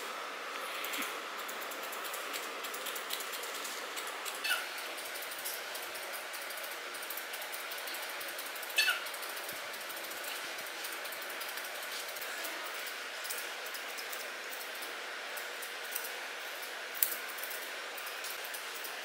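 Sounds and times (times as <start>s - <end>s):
shears snipping hair: 0.0s - 19.0s.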